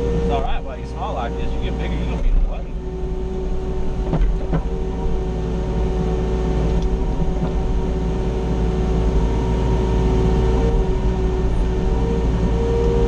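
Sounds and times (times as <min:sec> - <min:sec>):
excavator diesel engine whining: 0:00.0 - 0:13.0.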